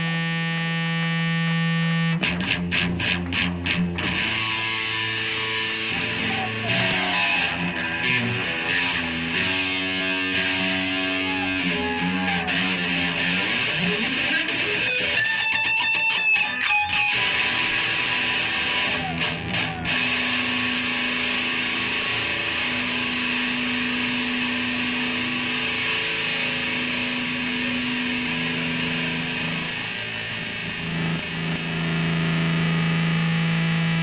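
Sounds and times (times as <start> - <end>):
distorted electric guitar: 0.0 - 34.0.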